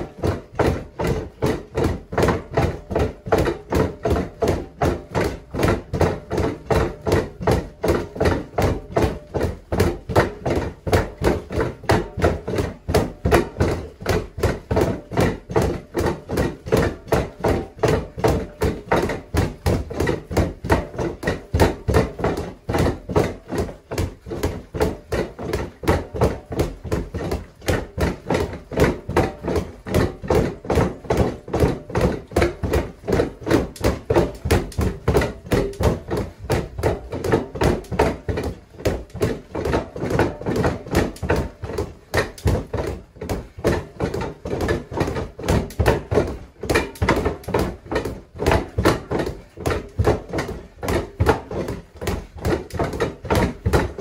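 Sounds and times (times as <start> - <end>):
fists punching a punching bag: 0.0 - 54.0.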